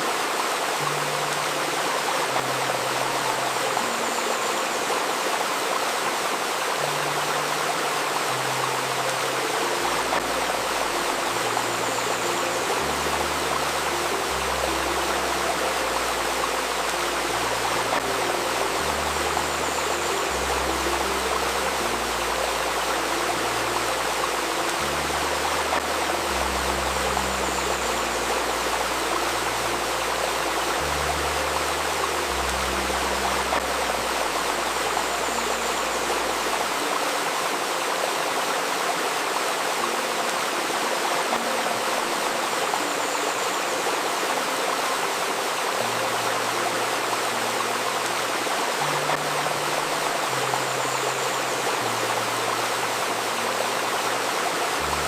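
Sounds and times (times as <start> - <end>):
babbling stream: 0.0 - 55.0
slow ambient music: 0.0 - 55.0.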